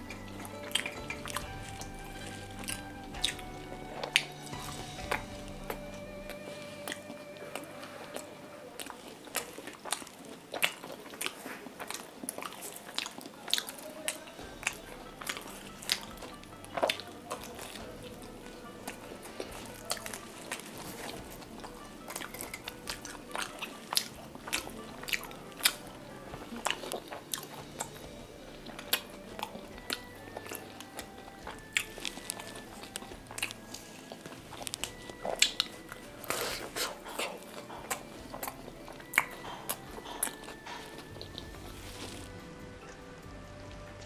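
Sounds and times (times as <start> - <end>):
crunching crispy pastry: 0.0 - 43.3
soft chewing: 0.0 - 44.0.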